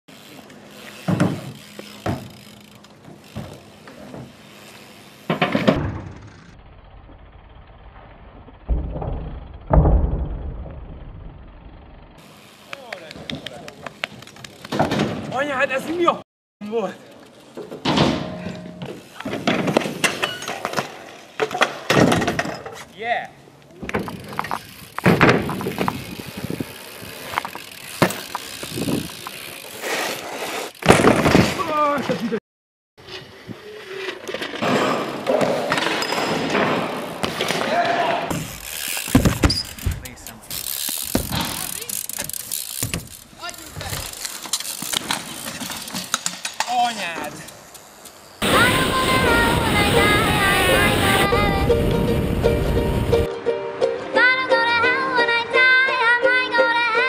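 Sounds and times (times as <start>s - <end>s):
bike tyres and frame thudding: 0.1s - 16.2s, 17.2s - 32.4s, 33.0s - 53.3s.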